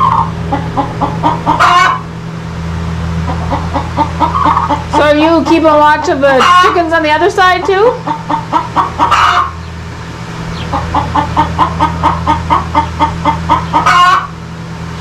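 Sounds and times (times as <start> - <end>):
chicken clucking: 0.0 - 2.1, 3.2 - 9.7, 10.5 - 14.4
low hum: 0.0 - 15.0.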